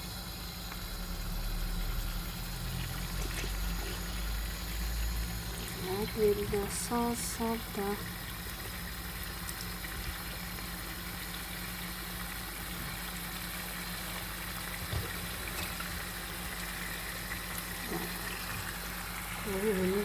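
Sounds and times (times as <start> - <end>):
constant low hum: 0.0 - 20.0.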